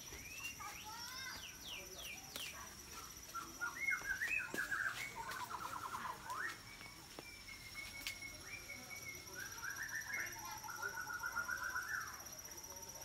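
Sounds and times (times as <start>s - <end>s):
birds chirping and trilling: 0.0s - 13.0s.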